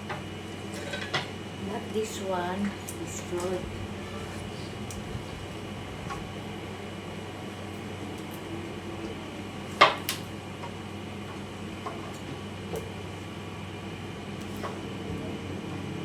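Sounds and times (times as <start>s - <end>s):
background hum: 0.0s - 16.0s.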